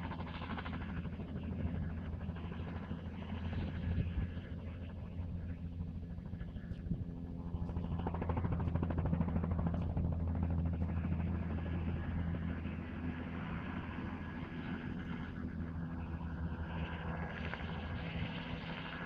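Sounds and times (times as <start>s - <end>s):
helicopter rotor beating: 0.0s - 19.0s.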